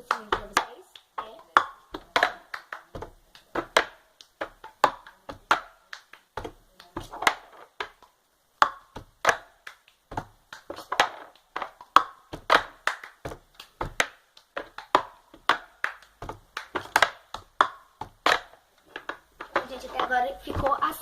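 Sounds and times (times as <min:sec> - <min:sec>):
hand claps: 0:00.0 - 0:21.0.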